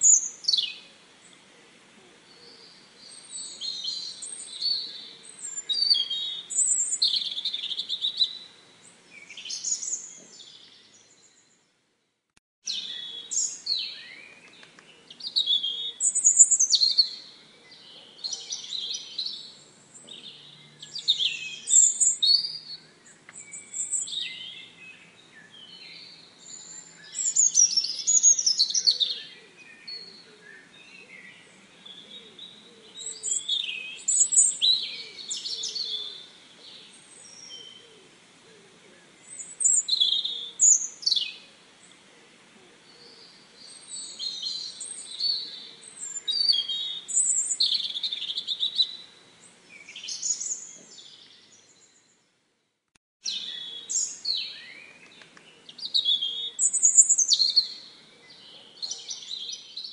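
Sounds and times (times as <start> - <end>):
songbirds singing and twittering: 0.0 - 11.8, 12.6 - 59.9.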